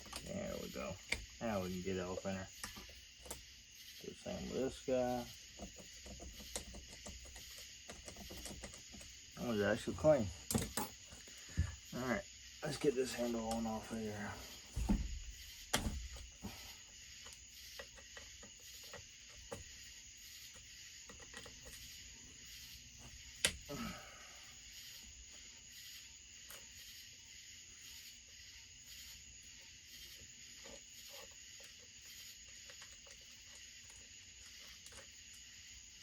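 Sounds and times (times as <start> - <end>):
night insects chirring: 0.0 - 36.0.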